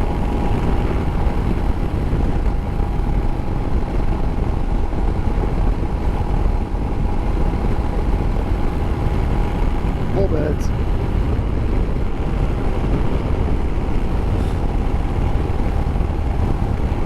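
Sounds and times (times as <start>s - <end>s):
motorcycle engine rumble: 0.0s - 17.0s
wind: 0.0s - 17.0s.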